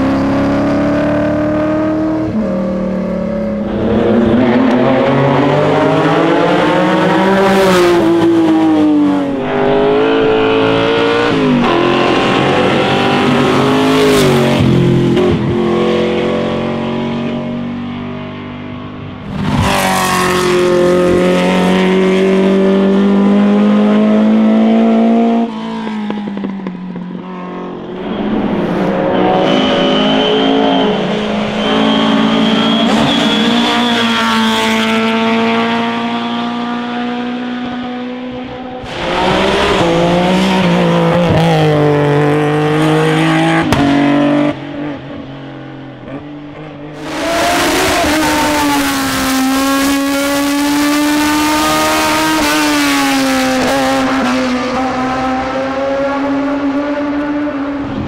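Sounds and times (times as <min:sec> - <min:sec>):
racing car engines at full throttle: 0:00.0 - 0:58.0.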